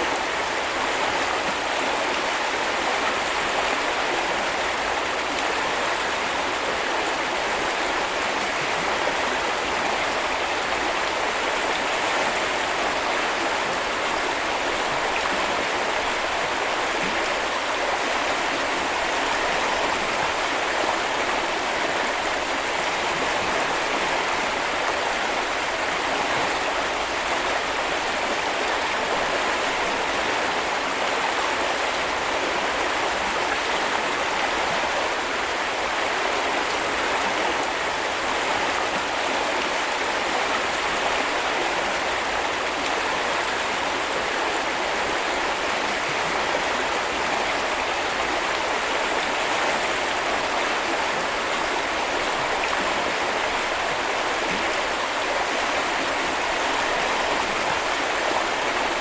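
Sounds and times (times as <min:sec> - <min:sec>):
brook flowing: 0:00.0 - 0:59.0.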